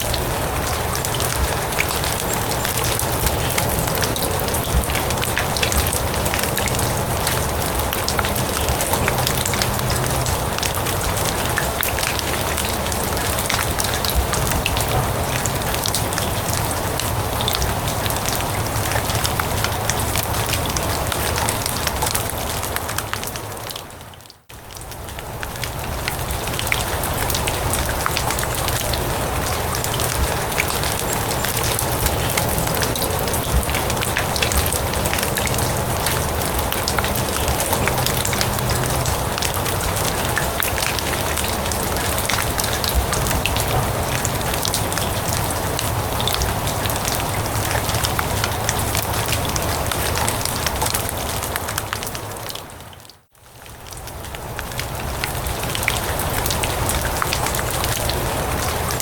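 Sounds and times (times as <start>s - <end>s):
rain on grass and leaves: 0.0s - 59.0s.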